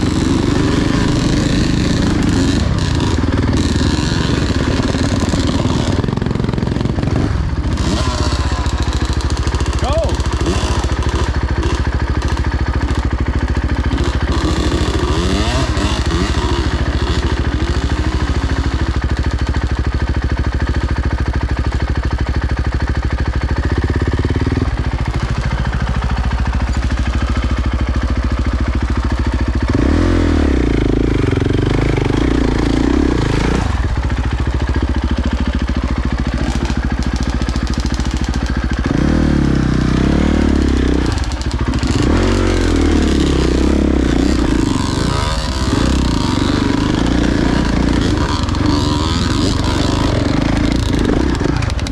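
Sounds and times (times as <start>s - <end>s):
dirt bike engine revving: 0.0s - 21.0s, 23.4s - 51.9s.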